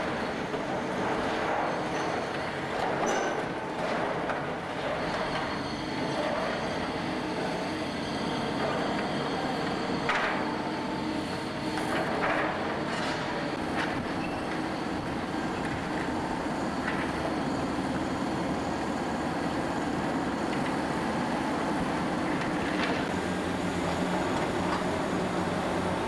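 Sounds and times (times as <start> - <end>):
excavator running: 0.0 - 26.0.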